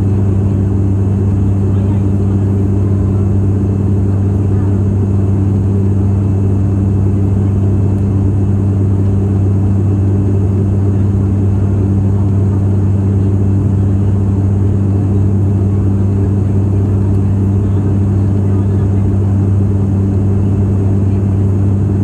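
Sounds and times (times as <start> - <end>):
propeller engine droning in cabin: 0.0 - 22.0.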